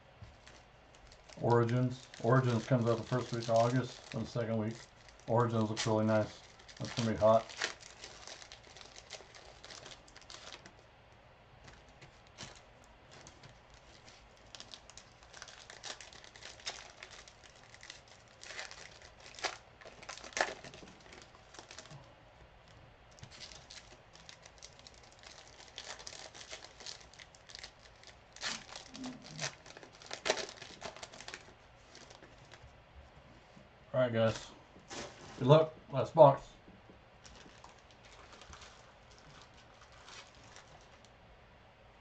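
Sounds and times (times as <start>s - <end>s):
plastic wrapping crinkling and tearing: 0.3s - 10.9s, 11.7s - 22.1s, 23.1s - 32.7s, 37.2s - 41.1s.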